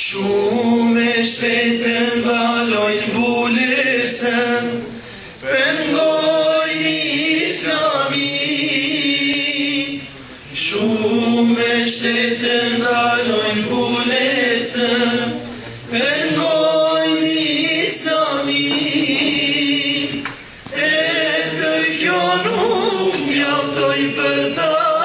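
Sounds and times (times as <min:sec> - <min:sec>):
men singing together: 0:00.0 - 0:25.0.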